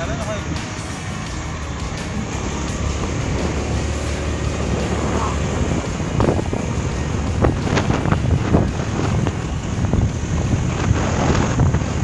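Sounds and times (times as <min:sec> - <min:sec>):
scooter rumbling: 0:00.0 - 0:12.0
wind buffeting microphone: 0:00.0 - 0:12.0.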